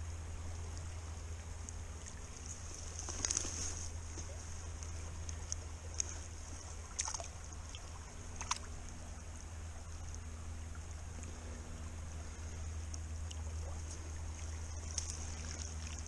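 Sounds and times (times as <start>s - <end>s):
river running: 0.0s - 16.0s
hand moving through grass and water: 1.6s - 16.0s.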